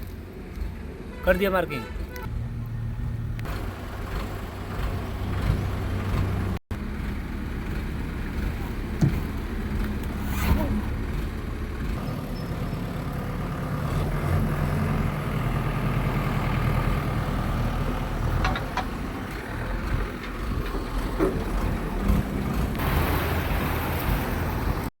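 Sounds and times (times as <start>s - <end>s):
excavator diesel engine running: 2.3s - 24.9s.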